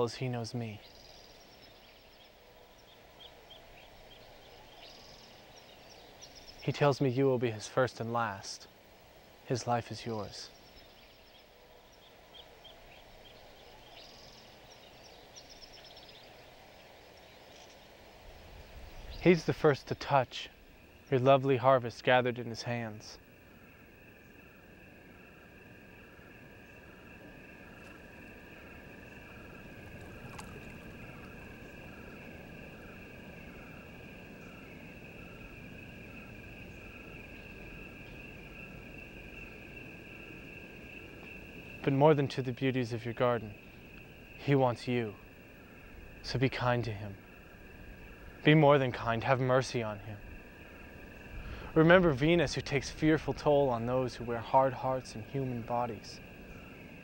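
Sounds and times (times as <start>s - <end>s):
crickets trilling: 0.0s - 57.0s
low background hiss: 0.0s - 57.0s
small birds chirping: 0.0s - 57.0s.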